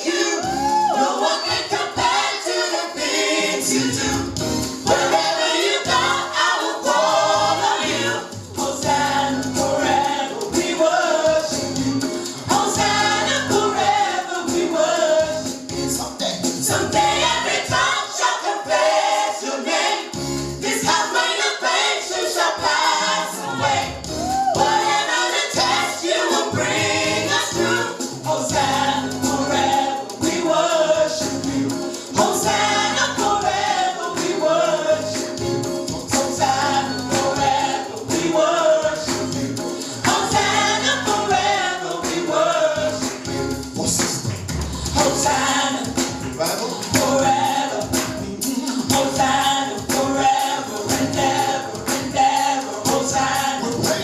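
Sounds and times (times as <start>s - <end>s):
choir singing gospel music: 0.0s - 54.0s.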